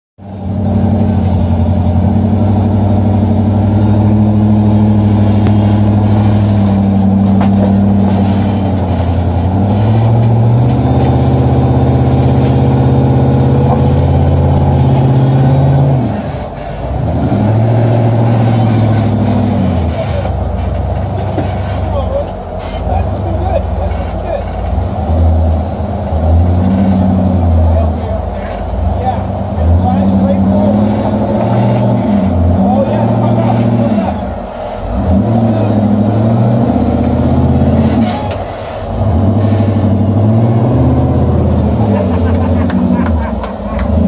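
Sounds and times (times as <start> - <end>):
buggy engine running under load: 0.2 - 44.0.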